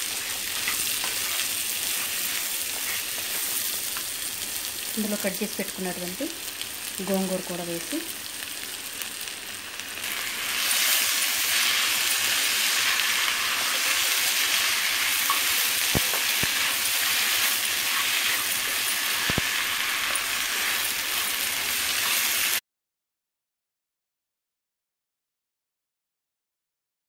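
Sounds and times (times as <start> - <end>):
food sizzling in a hot pan: 0.0 - 22.6.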